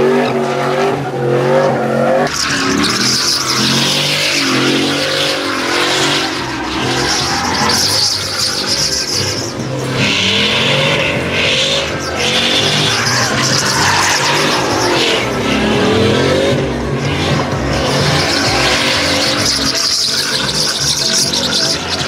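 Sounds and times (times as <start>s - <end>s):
tires squealing in a burnout: 0.0s - 22.0s
truck engine revving: 0.0s - 22.0s.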